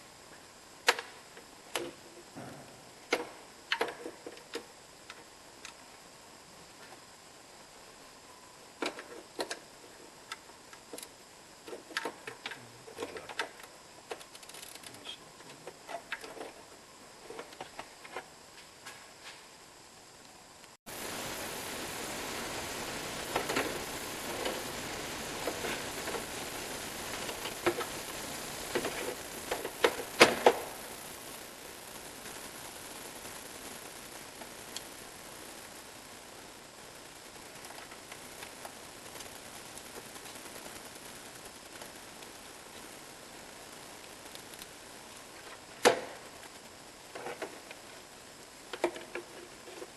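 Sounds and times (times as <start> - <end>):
steady hiss: 0.0 - 49.9.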